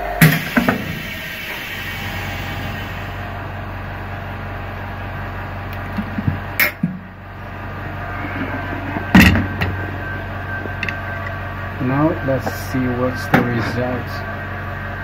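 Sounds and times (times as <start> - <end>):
laminating machine humming: 0.0 - 15.0.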